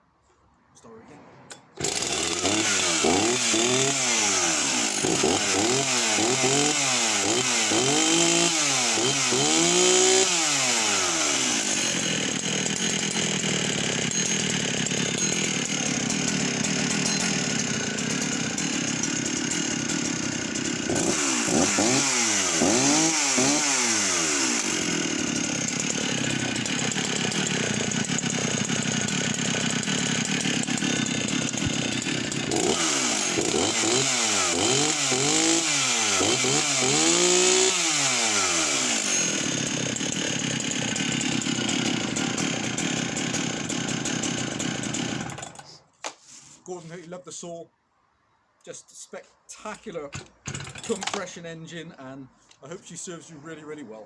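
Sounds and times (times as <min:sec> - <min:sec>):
chainsaw engine revving and idling: 0:01.5 - 0:45.8, 0:49.8 - 0:51.9.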